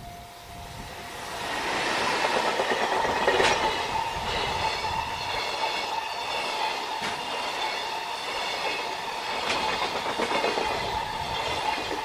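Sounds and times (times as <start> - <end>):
freight train wheels rumbling on rail: 0.0 - 12.0
steady high tone: 0.0 - 12.0.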